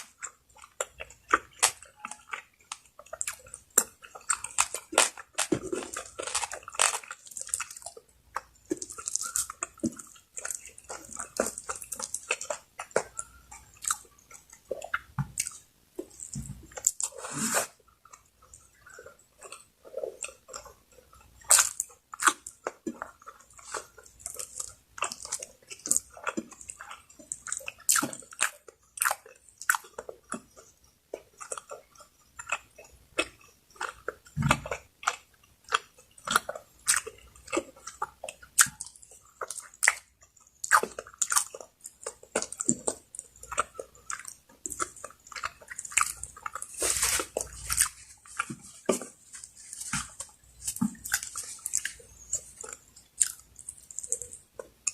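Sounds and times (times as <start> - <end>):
chewing with wet smacks: 0.0 - 54.9.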